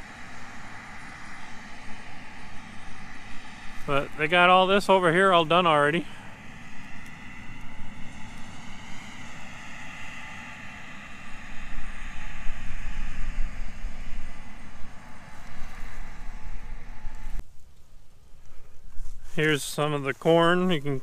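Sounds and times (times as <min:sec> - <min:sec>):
distant combine harvester droning: 0:00.0 - 0:17.4
wind rumbling on microphone: 0:00.0 - 0:19.6.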